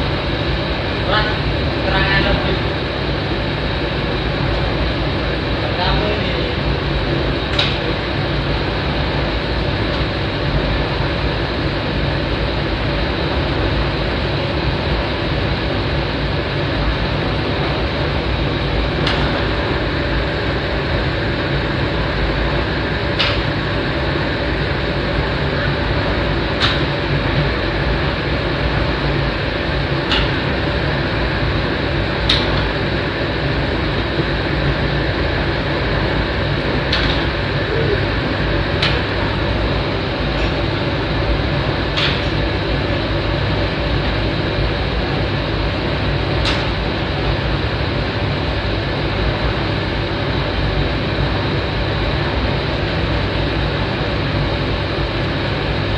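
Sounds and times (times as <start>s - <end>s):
kitchen ventilation rushing: 0.0s - 55.9s.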